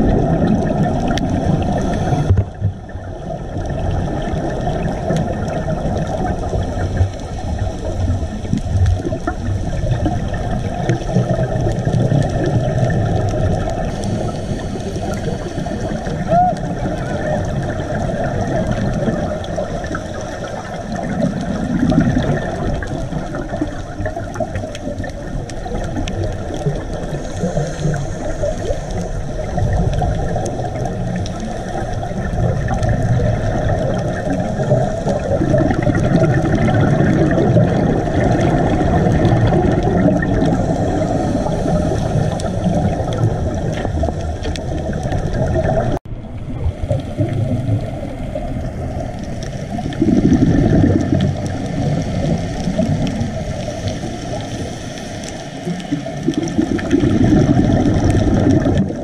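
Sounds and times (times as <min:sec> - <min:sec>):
scuba diver exhaled bubbles: 0:00.0 - 0:59.0
water rushing underwater: 0:00.0 - 0:59.0.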